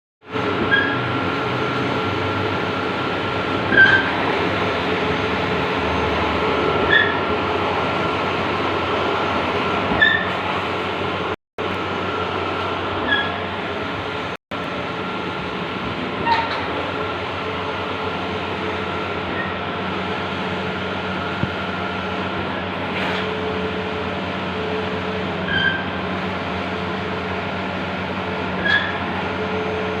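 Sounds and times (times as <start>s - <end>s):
printing machine hum and whir: 0.2s - 30.0s.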